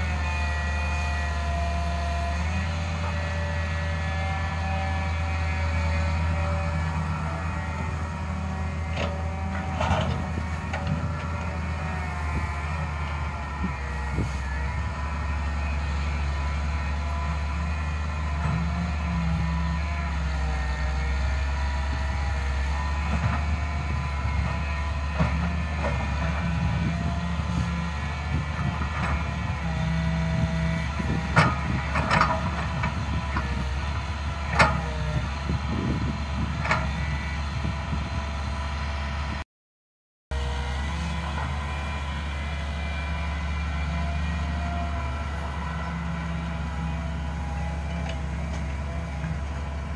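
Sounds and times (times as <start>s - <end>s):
diesel engine running: 0.0s - 39.4s, 40.3s - 49.9s
hydraulic whine: 0.0s - 39.4s, 40.3s - 49.9s.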